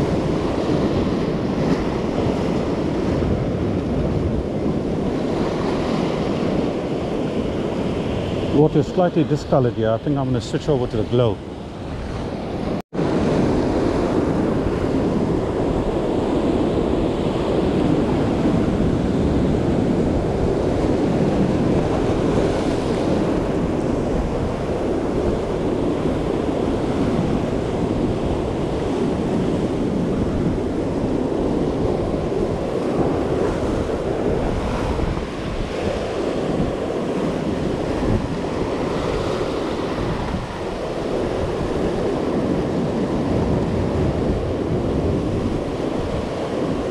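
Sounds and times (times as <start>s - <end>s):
ocean surf breaking on rocks: 0.0s - 46.9s
wind buffeting microphone: 0.0s - 46.9s.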